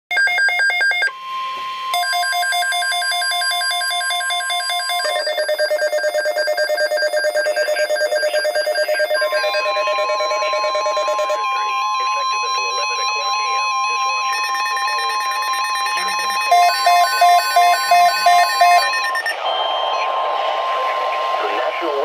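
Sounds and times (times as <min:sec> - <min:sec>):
rapid pulsing electronic beeps: 0:01.9 - 0:20.1.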